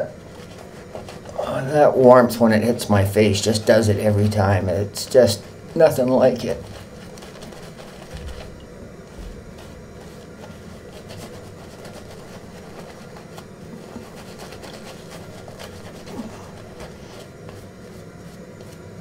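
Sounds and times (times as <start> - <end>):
shaving brush wet swishing: 0.0 - 18.8.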